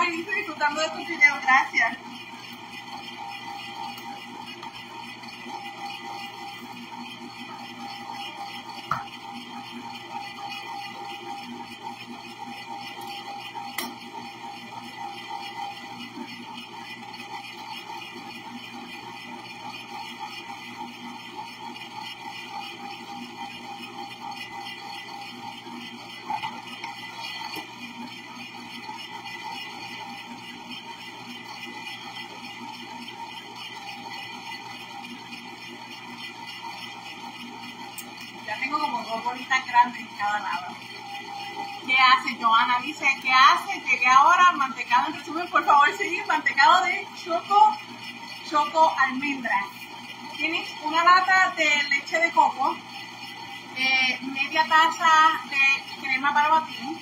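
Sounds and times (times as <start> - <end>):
ice cream maker humming: 0.0 - 57.0.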